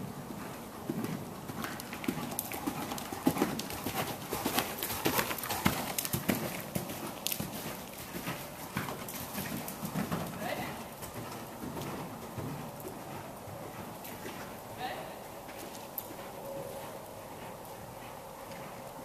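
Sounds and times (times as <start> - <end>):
horse hoofbeats on soft dirt: 0.0 - 19.0.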